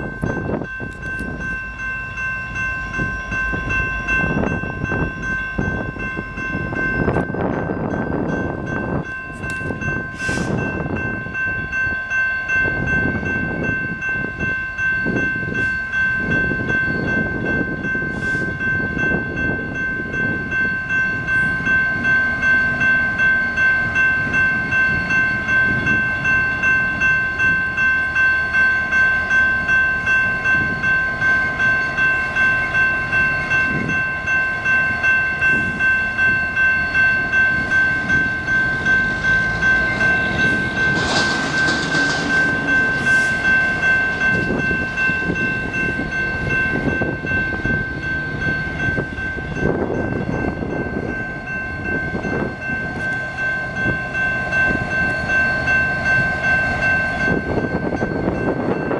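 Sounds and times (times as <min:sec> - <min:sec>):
bell ringing steadily: 0:00.0 - 0:58.9
diesel locomotive running: 0:00.0 - 0:58.9.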